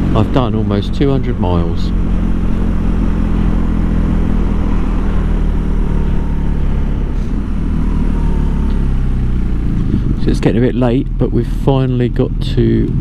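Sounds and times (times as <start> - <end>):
motorcycle engine running: 0.0 - 13.0
wind and road rush: 0.0 - 13.0.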